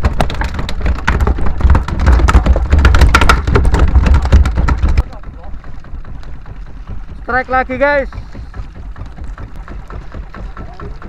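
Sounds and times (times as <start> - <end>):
steady low rumble: 0.7 - 11.0.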